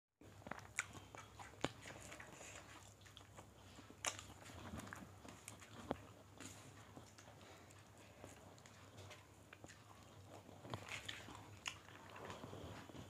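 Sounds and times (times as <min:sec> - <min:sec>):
chewing and mouth smacking: 0:00.2 - 0:13.0.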